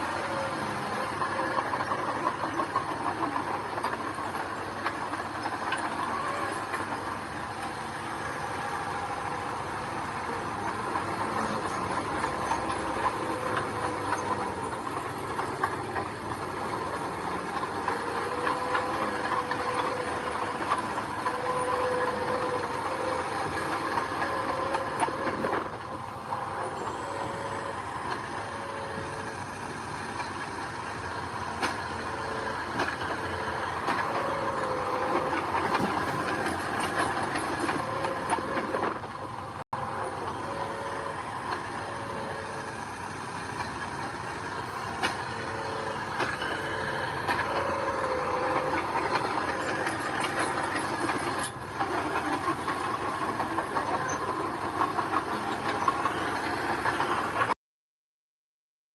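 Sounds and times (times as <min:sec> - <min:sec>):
diesel engine running: 0:00.0 - 0:57.6
steel tracks clanking: 0:00.0 - 0:57.6.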